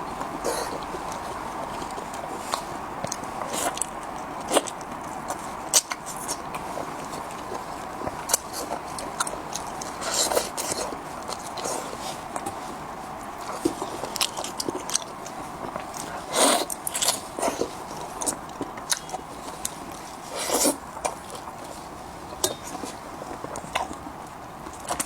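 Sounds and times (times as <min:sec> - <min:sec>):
close-miked biting and chewing: 0:00.0 - 0:25.0.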